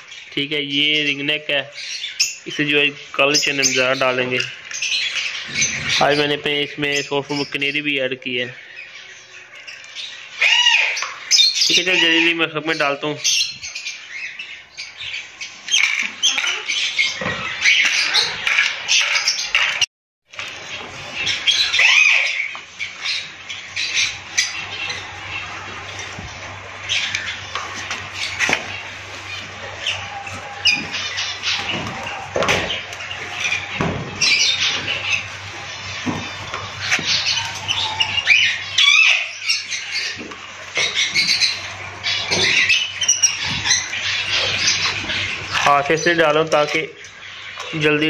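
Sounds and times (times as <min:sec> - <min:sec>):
parrots squawking and chattering: 0:00.0 - 0:48.0.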